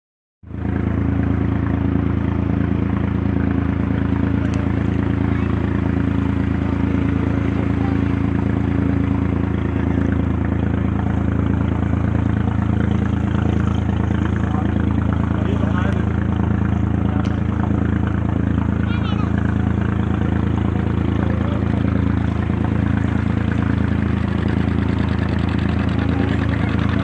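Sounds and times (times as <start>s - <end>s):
motorboat engine running: 0.4s - 27.0s
water rushing along hull: 0.5s - 27.0s.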